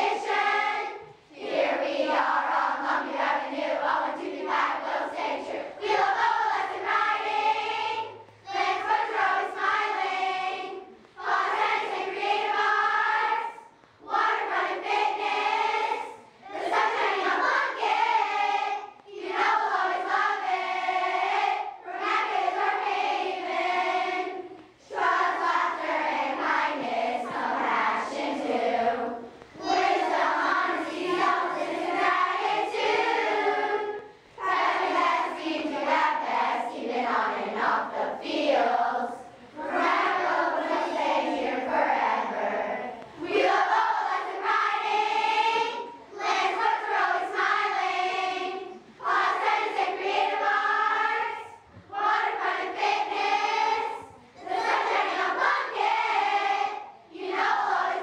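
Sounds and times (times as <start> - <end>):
girls singing in unison: 0.0 - 58.0.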